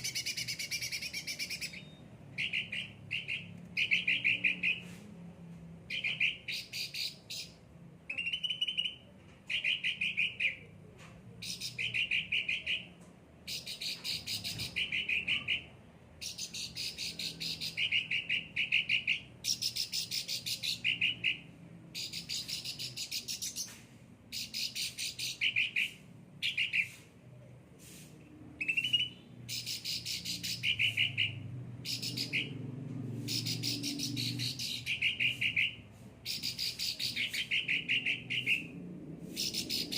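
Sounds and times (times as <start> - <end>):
songbird trilling song: 0.0 - 4.9, 5.9 - 10.6, 13.5 - 27.0, 28.6 - 32.6, 33.2 - 39.9.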